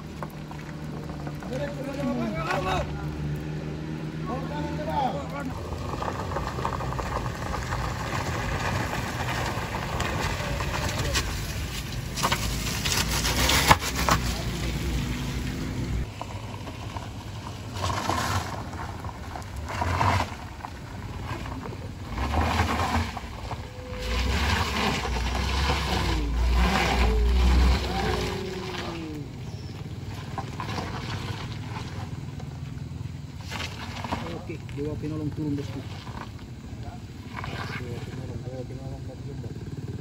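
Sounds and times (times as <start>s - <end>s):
car engines climbing under load: 0.0s - 38.6s.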